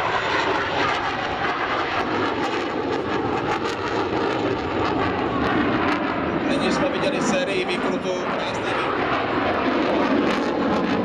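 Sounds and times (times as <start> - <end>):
jet engine rushing rumble: 0.0 - 11.0.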